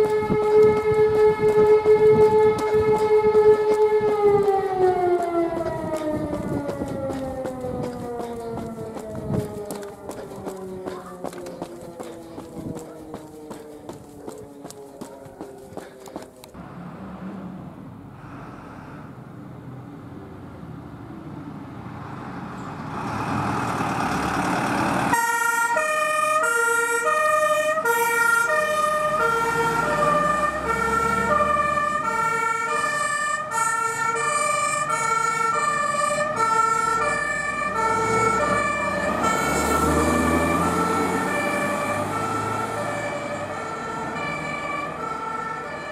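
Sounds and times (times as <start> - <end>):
two-tone siren horn: 0.0 - 16.6, 25.1 - 45.9
fire engine engine noise: 0.0 - 45.9.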